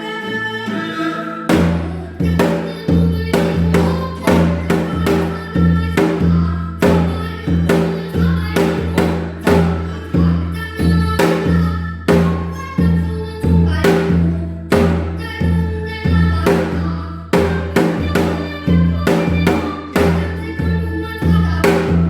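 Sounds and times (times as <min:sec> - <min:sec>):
drum playing a fast rhythm: 0:01.5 - 0:22.0.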